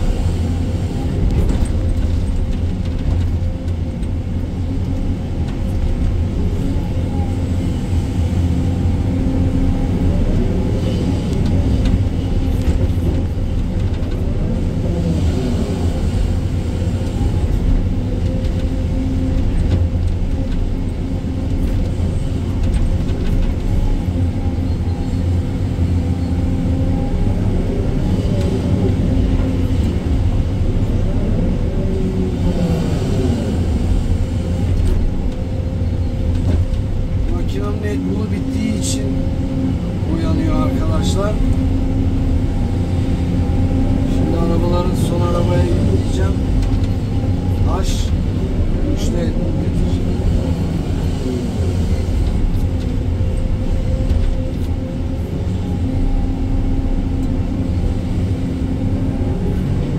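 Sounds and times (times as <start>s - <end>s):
excavator diesel engine rumbling: 0.0s - 59.9s.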